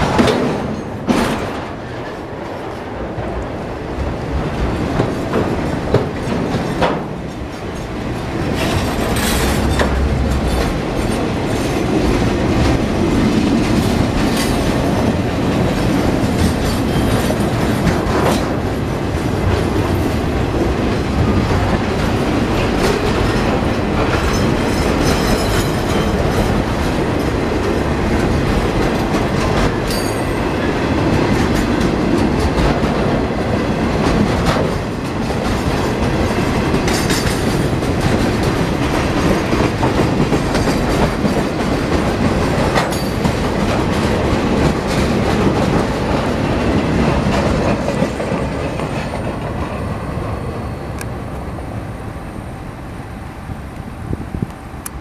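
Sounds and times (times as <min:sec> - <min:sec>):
train wheels clacking over rail joints: 0:00.0 - 0:49.9
train cars clanking: 0:00.0 - 0:51.9.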